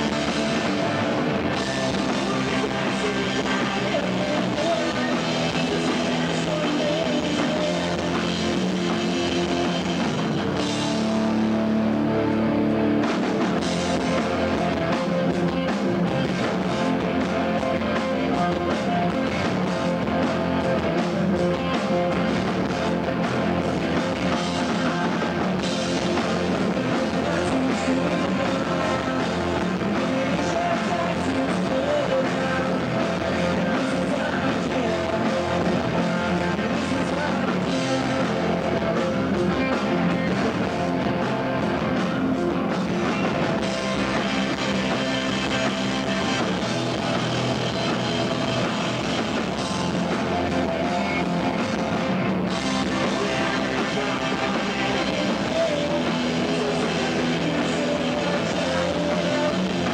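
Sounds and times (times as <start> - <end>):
person singing: 0.0 - 11.3, 13.8 - 47.2, 48.2 - 59.9
distorted electric guitars: 0.0 - 59.9.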